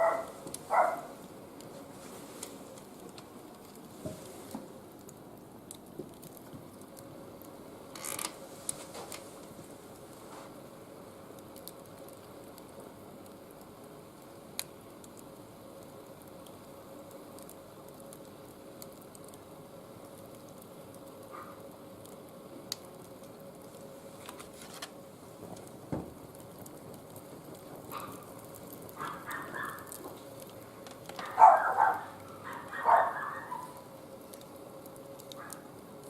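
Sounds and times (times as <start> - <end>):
fire crackling and popping: 0.0 - 36.0
wood fire hissing: 0.0 - 36.0.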